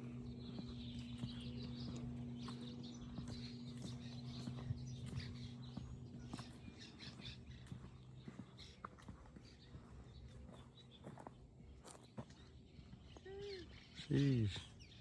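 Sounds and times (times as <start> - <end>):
light footsteps: 0.0 - 13.3
birds chirping: 0.0 - 15.0
steady low hum: 0.0 - 15.0.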